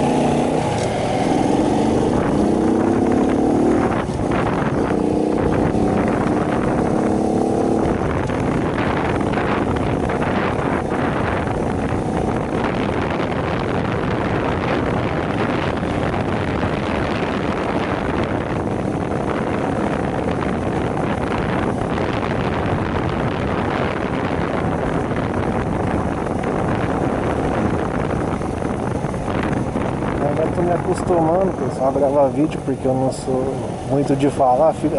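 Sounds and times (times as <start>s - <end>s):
small motorcycle engine droning: 0.0s - 34.9s
wind buffeting microphone: 0.0s - 34.9s.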